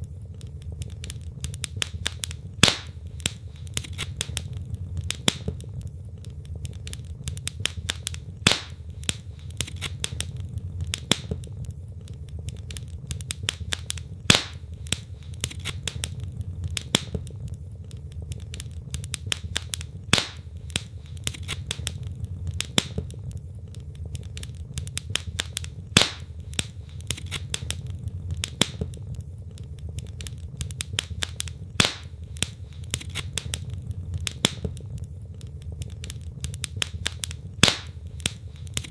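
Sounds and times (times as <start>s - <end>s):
low rumble: 0.0s - 38.9s
wood fire crackling: 0.0s - 38.9s.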